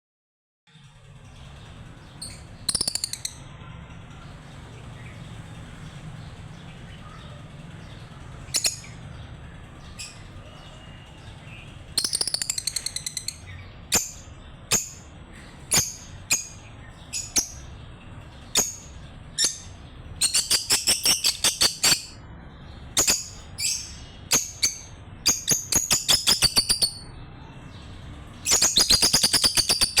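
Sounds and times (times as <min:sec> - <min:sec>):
lovebirds chirping: 0:04.1 - 0:30.0.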